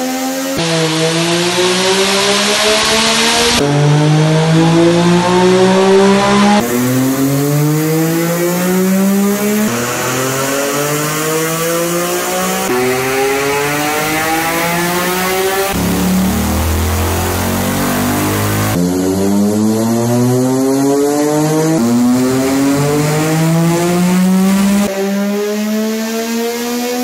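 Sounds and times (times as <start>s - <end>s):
motorcycle engine at full throttle: 0.0s - 27.0s.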